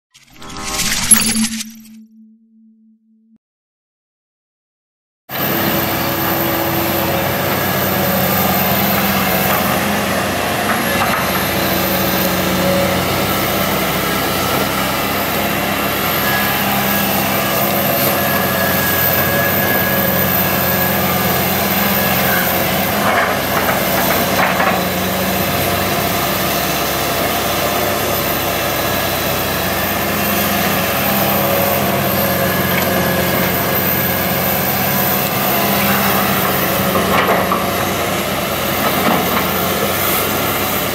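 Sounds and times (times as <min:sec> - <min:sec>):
excavator diesel engine running: 0:05.3 - 0:40.9.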